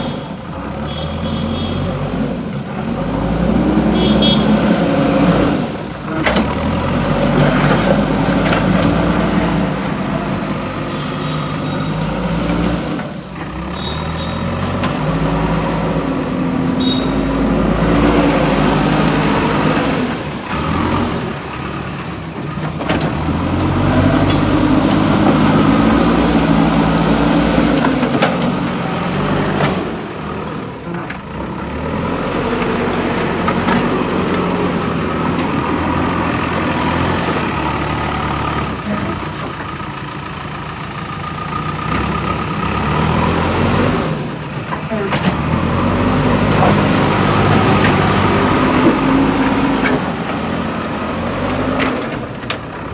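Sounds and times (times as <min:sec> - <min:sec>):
diesel engine revving under load: 0:00.0 - 0:52.9.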